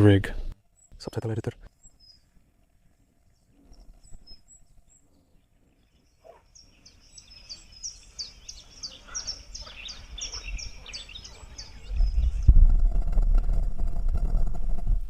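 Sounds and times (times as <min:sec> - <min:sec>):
songbird chirping: 0:00.0 - 0:12.6.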